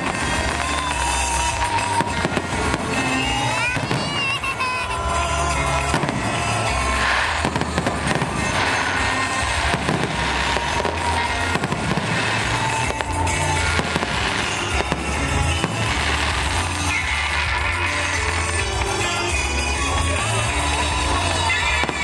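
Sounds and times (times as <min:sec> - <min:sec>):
firework bangs and crackles: 0:00.0 - 0:22.0
music playing: 0:00.0 - 0:22.0.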